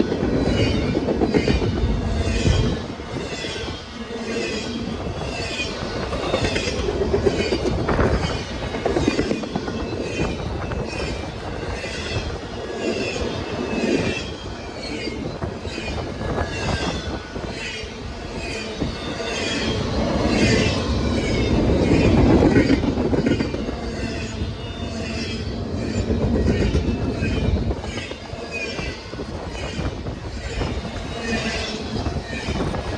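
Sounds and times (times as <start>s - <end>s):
train rumble: 0.0s - 32.9s
train wheels squealing: 0.0s - 32.9s.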